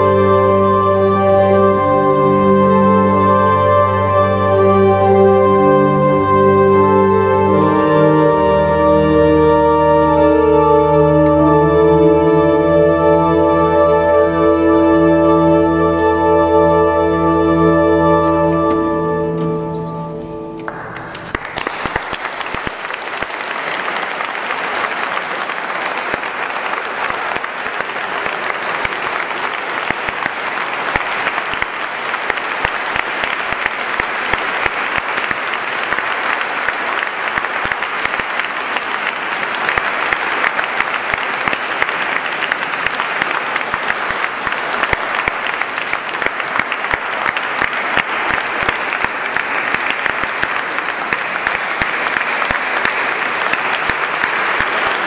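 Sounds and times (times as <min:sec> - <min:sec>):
audience applauding: 0:00.0 - 0:55.0.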